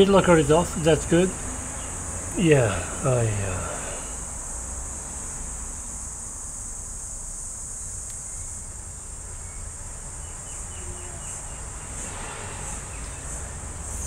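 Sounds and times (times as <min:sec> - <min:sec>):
low background hum: 0:00.0 - 0:11.8
high-pitched insect chorus: 0:00.0 - 0:14.0.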